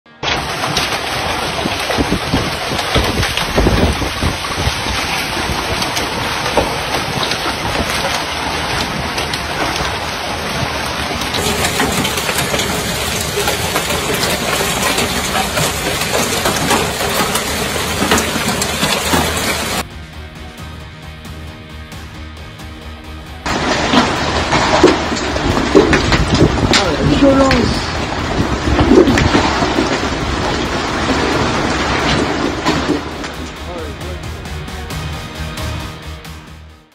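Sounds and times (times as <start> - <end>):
rushing downpour: 0.1 - 19.9, 23.4 - 36.4
hailstones clattering on cars: 0.2 - 19.9, 23.4 - 34.2.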